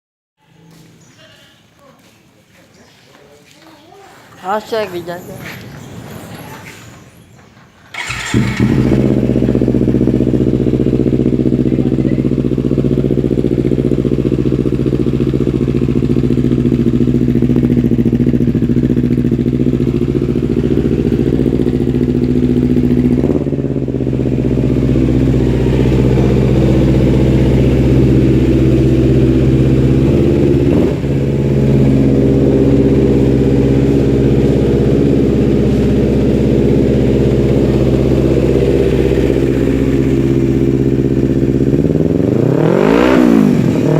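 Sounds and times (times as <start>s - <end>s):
motorcycle engine idling: 7.9s - 43.9s.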